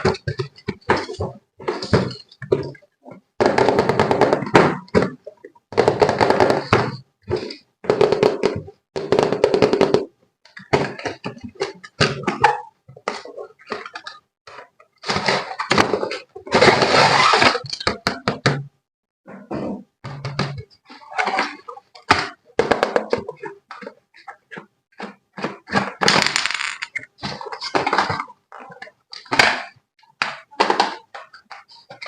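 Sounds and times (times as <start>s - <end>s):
objects knocking and clattering: 0.0s - 32.0s.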